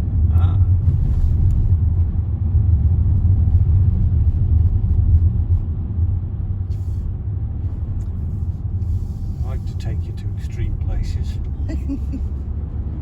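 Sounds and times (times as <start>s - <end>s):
road and engine rumble: 0.0s - 13.0s
wind battering car: 0.0s - 13.0s.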